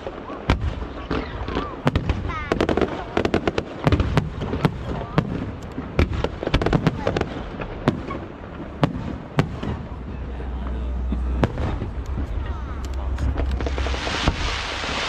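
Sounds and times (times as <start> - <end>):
fireworks bursting with sharp bangs: 0.0 - 15.0.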